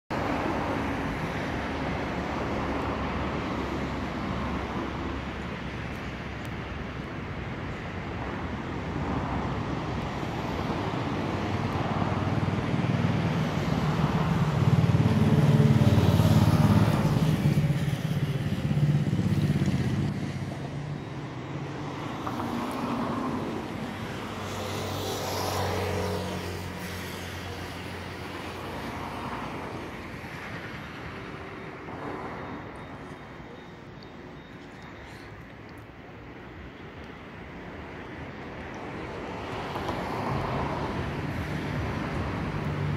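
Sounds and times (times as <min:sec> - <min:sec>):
vehicle engines passing: 0:00.1 - 0:42.9.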